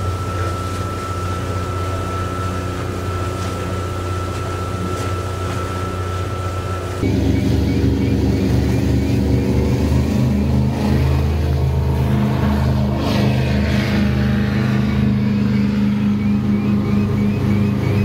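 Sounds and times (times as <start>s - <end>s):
motorboat engine running: 0.0s - 18.0s
water rushing: 0.0s - 18.0s.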